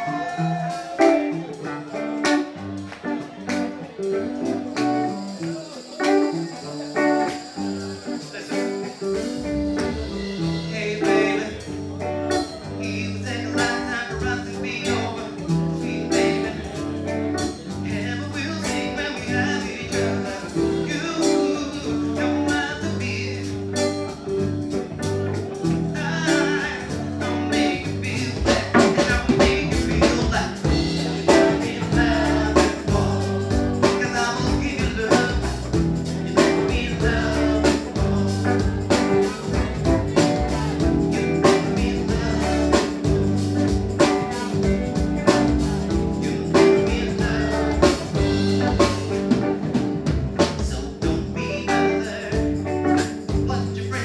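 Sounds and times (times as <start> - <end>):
man singing: 0.0 - 49.7, 50.4 - 54.0
drum kit beat: 0.0 - 54.0
electric guitars: 0.0 - 54.0.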